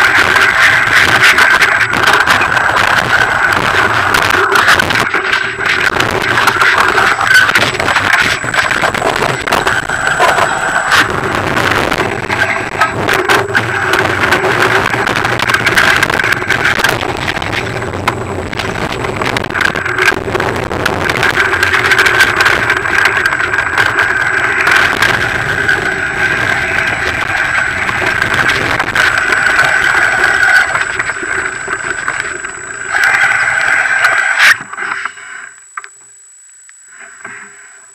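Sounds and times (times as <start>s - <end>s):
bike rattling over stones: 0.0s - 34.7s
tyre and wind noise: 0.0s - 34.7s.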